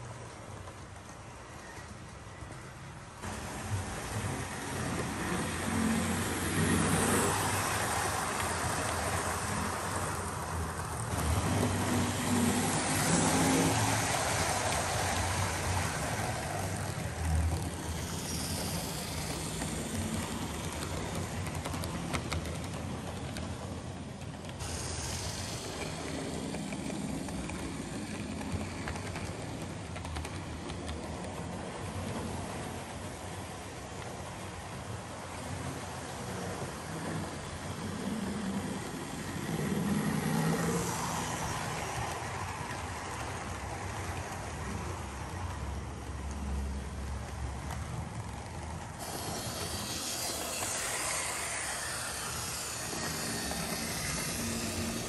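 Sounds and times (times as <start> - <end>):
model train wheels clattering: 0.0 - 55.0.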